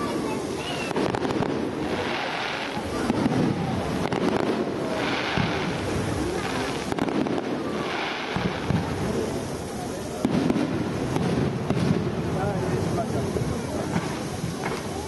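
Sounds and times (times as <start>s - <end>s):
firework shells bursting: 0.0s - 15.0s
fireworks hissing and crackling: 0.0s - 15.0s.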